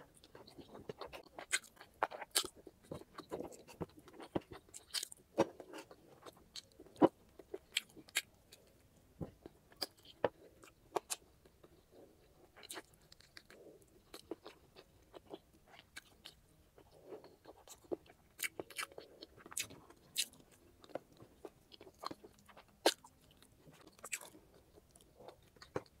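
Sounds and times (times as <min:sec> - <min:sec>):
chewing and biting: 0:00.2 - 0:08.7, 0:09.4 - 0:26.0.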